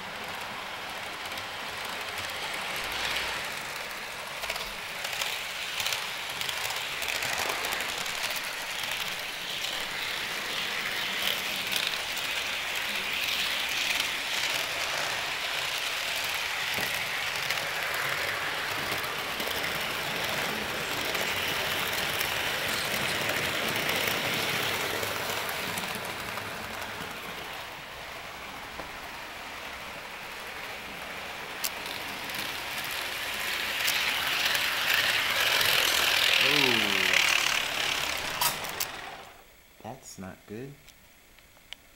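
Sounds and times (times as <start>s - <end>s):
model train wheels whirring: 0.0s - 39.8s.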